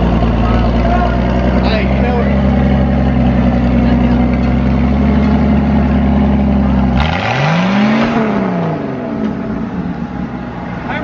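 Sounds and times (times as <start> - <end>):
vehicle engine running and revving: 0.0 - 11.0.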